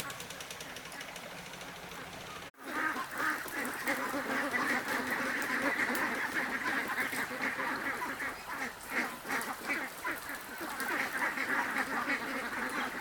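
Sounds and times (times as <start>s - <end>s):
ducks quacking: 1.8s - 13.0s.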